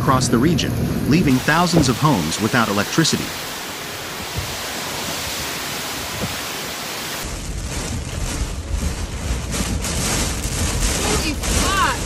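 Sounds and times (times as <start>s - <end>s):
deep rumble: 0.0s - 5.2s, 7.2s - 12.0s
heavy rain: 0.0s - 12.0s
wind buffeting microphone: 0.0s - 12.0s.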